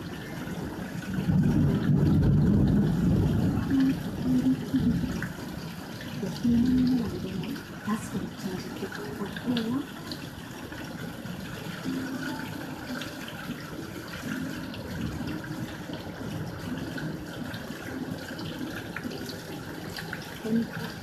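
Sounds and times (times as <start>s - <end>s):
heavy rain falling and splashing: 0.0s - 21.0s.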